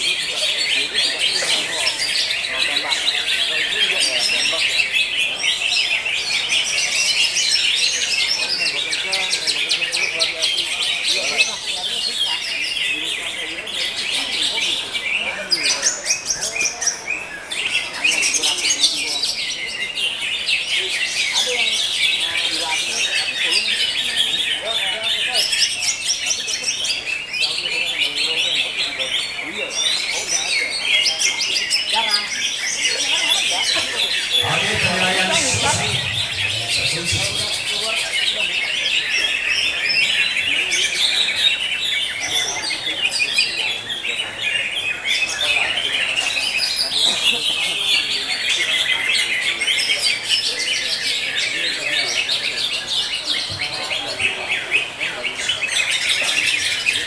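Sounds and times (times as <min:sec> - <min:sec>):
other birds singing: 0:00.0 - 0:57.0.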